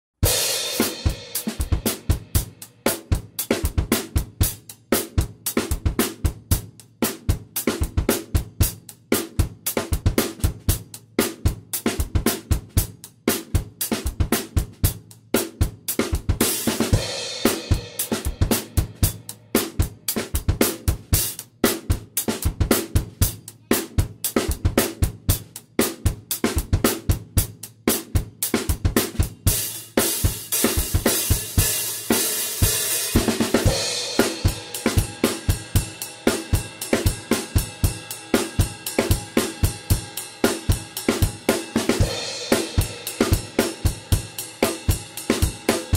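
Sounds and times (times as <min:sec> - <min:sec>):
drum kit steady beat: 0:00.2 - 0:45.9.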